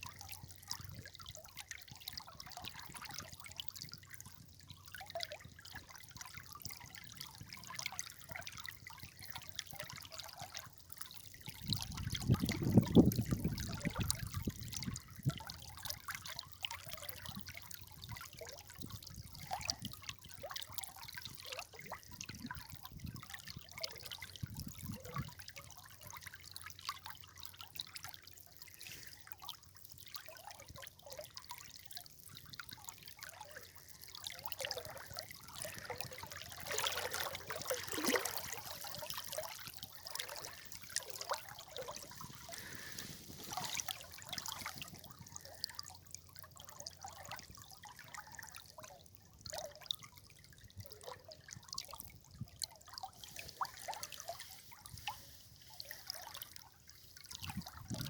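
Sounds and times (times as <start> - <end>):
river water trickling and splashing: 0.0 - 58.0.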